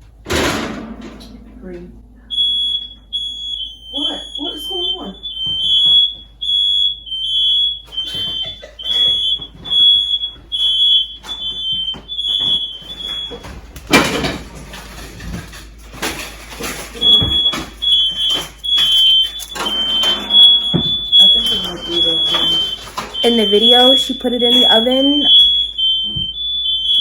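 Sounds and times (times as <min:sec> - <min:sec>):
smoke detectors beeping: 0:02.3 - 0:14.9, 0:16.0 - 0:27.0.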